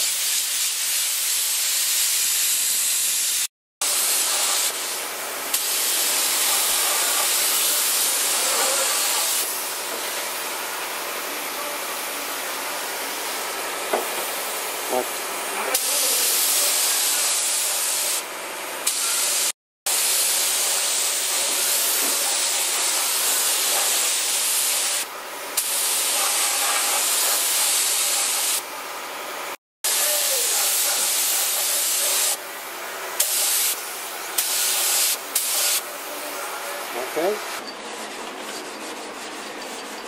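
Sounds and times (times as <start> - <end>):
spray gun hissing: 0.0 - 10.7, 12.1 - 18.2, 18.8 - 28.7, 29.5 - 32.4, 33.1 - 37.6.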